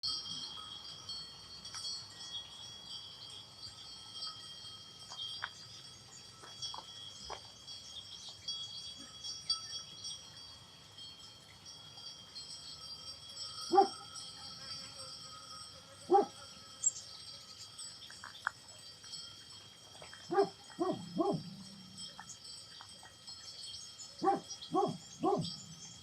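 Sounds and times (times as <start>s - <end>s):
bell clanks: 0.0s - 16.3s, 16.9s - 26.0s
livestock bells ringing: 0.0s - 26.0s.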